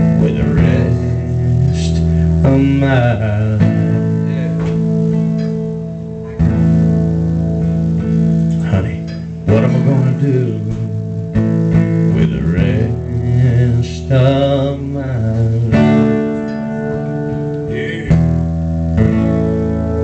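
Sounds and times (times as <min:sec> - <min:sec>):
acoustic guitars strumming chords: 0:00.0 - 0:20.0.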